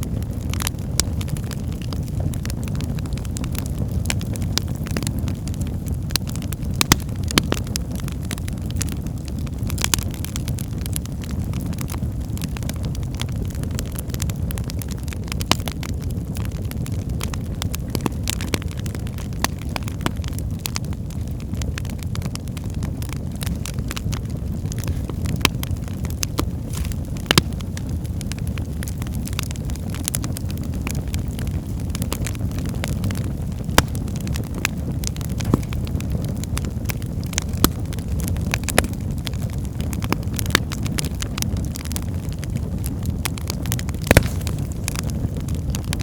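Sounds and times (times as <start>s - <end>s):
fire crackles and pops: 0.0s - 46.0s
fire flame rumble: 0.0s - 46.0s.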